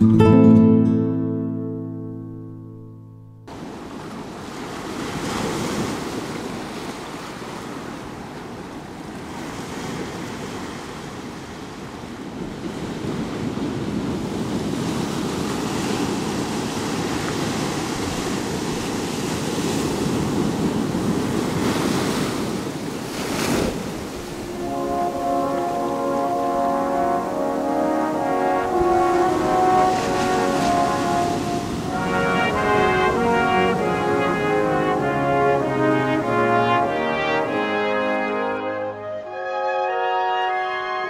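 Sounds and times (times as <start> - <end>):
ocean surf breaking over rocks: 3.5 - 38.6.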